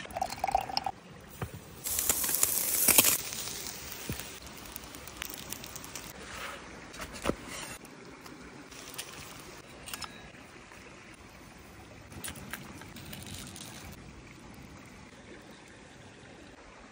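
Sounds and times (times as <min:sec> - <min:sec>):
creek running: 0:00.1 - 0:16.9.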